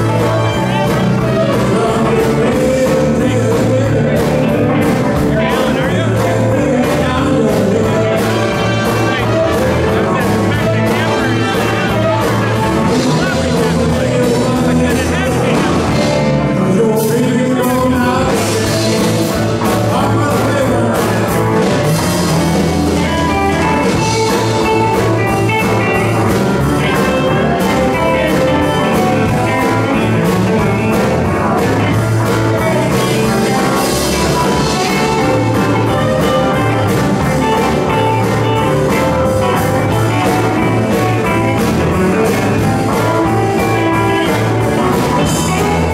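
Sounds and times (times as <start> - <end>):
live blues-rock band playing: 0.0 - 45.9
person singing: 0.0 - 45.9.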